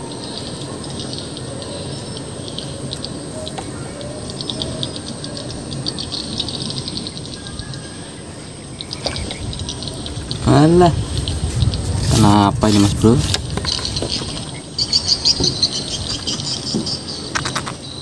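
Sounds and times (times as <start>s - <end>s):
low outdoor rush: 0.0s - 18.0s
small birds chirping: 0.0s - 18.0s.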